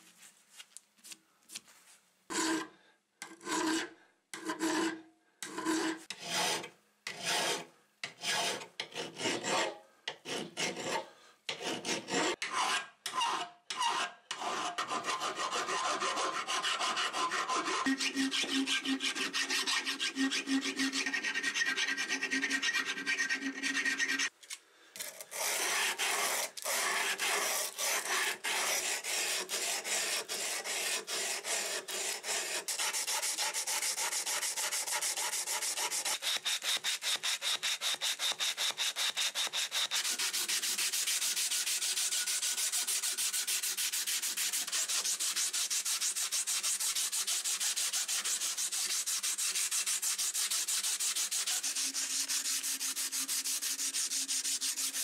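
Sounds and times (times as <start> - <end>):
file rasping on steel: 3.3 - 24.4, 25.1 - 55.0.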